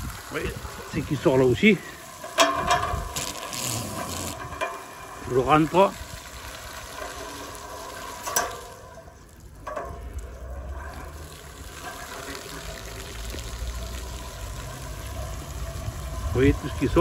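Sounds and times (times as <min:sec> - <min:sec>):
water pouring from radiator: 0:00.0 - 0:17.0.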